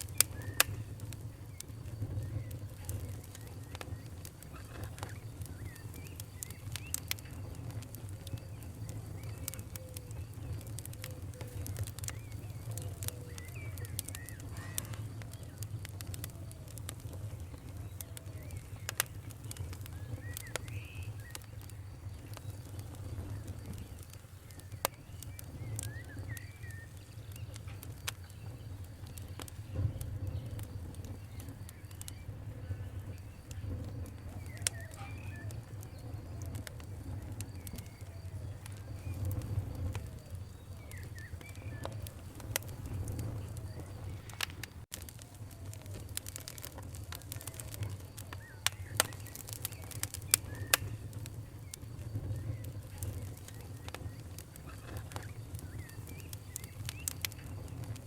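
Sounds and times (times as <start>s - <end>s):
bird chirps: 0.0s - 15.8s, 17.2s - 44.7s, 47.3s - 58.0s
campfire crackling and popping: 0.0s - 58.0s.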